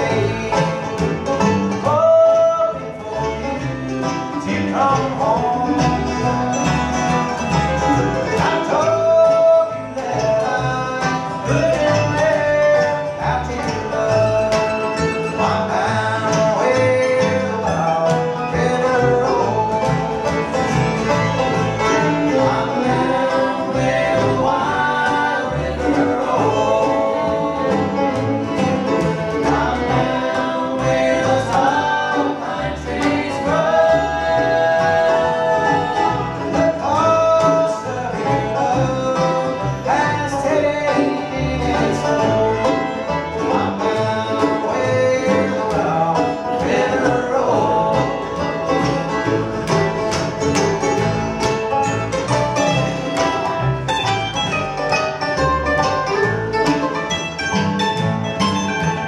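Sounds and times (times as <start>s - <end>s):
acoustic guitar: 0.0s - 59.0s
banjo: 0.0s - 59.0s
fiddle: 0.0s - 59.0s
mandolin: 0.0s - 59.0s
upright bass: 0.0s - 59.0s.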